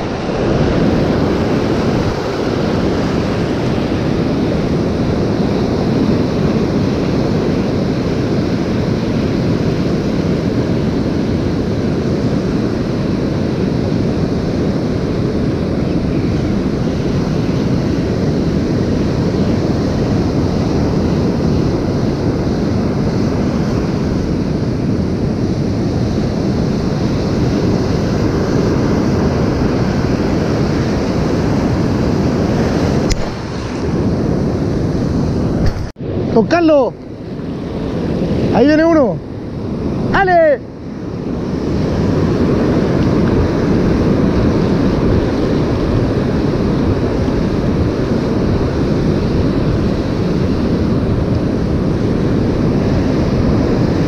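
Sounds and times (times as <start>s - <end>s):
surf washing on beach: 0.0s - 54.0s
wind rumble on microphone: 0.0s - 54.0s.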